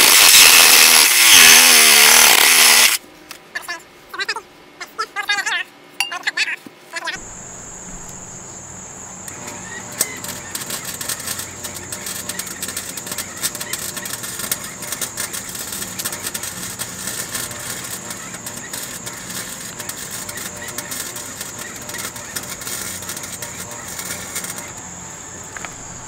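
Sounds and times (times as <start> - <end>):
arc welder crackling: 0.0 - 3.0, 7.2 - 26.0.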